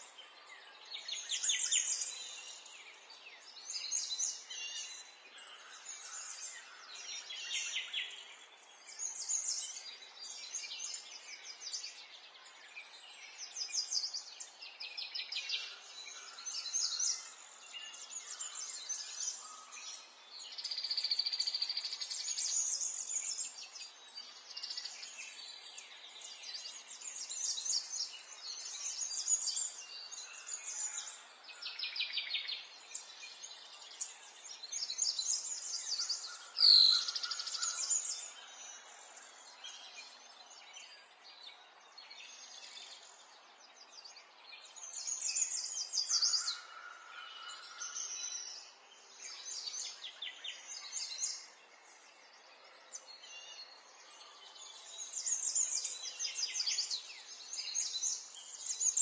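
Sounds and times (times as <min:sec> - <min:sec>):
birds chirping and trilling: 0:00.2 - 0:59.0.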